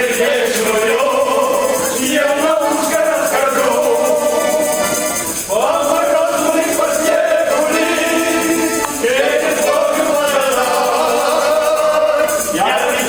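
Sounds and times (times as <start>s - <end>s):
instrumental backing: 0.0s - 13.0s
person singing long notes: 0.6s - 13.0s.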